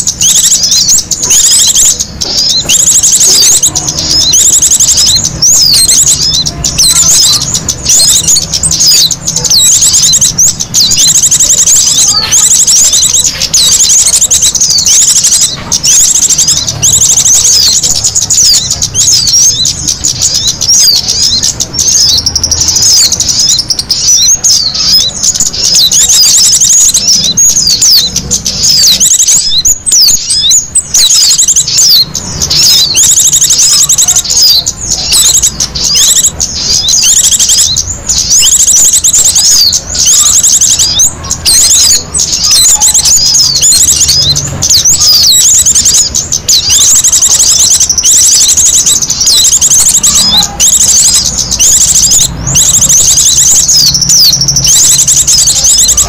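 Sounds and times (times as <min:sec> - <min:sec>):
small songbirds chattering: 0:00.0 - 0:56.0.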